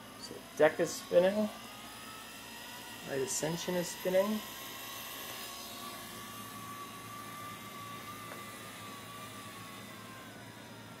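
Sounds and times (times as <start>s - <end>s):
servo motors whining: 0.0s - 11.0s.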